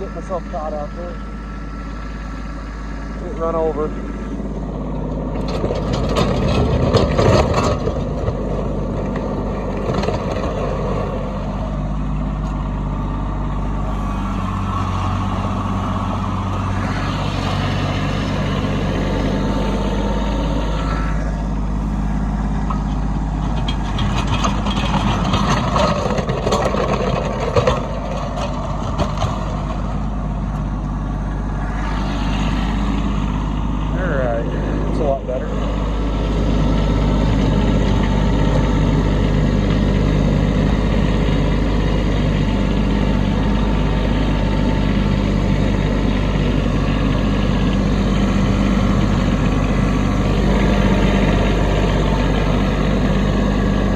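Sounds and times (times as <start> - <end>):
rushing noise of snow plowing: 0.0 - 53.9
tractor diesel engine running: 0.0 - 53.9.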